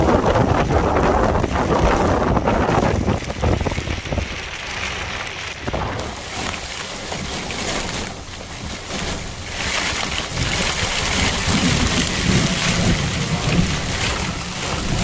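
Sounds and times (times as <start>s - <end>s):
heavy rain falling: 0.0s - 15.0s
wind buffeting microphone: 0.0s - 15.0s.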